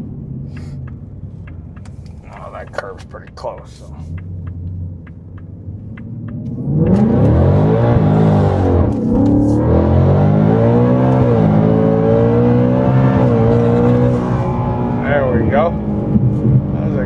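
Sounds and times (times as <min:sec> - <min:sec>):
supercharged engine at full throttle: 0:00.0 - 0:17.0.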